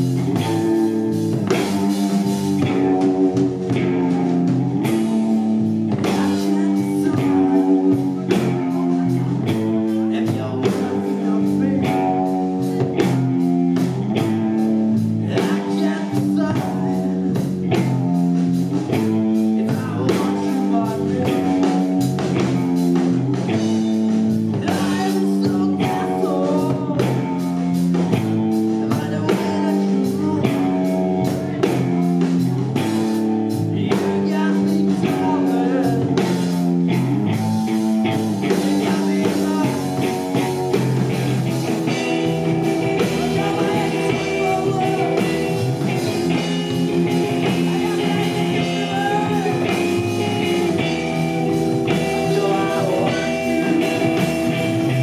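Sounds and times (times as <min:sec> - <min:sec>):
drum kit: 0:00.0 - 0:55.0
electric bass: 0:00.0 - 0:55.0
electric guitar: 0:00.0 - 0:55.0.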